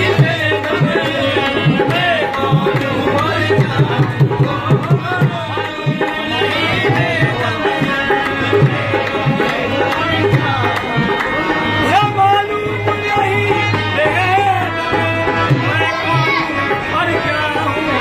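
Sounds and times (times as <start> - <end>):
harmonium chords: 0.0 - 18.0
man singing: 0.0 - 18.0.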